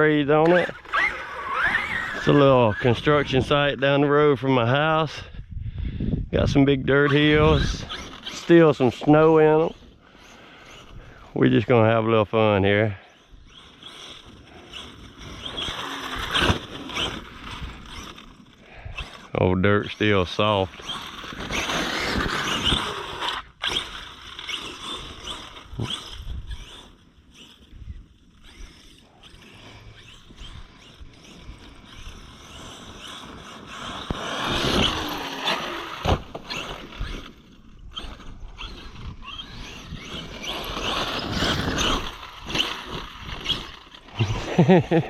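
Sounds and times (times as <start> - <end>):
electric motor whining: 0.0 - 4.2, 6.6 - 45.0
tyres churning through dirt: 0.0 - 5.2, 6.3 - 45.0.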